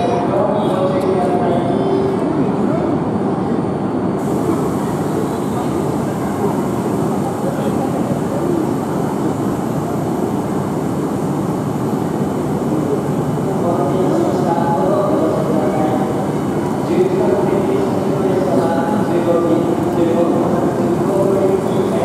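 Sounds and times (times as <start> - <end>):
train equipment whirring hum: 0.0 - 22.0.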